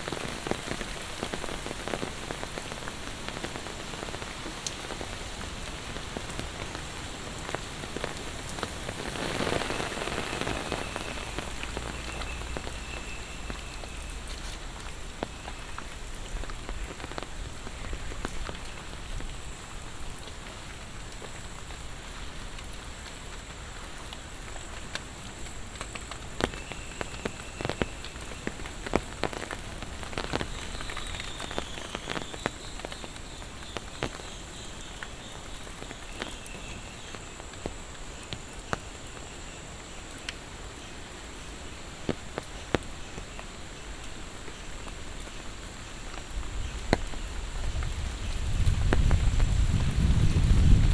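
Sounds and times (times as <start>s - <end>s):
raindrops tapping close by: 0.0s - 50.9s
steady rain falling: 0.0s - 50.9s.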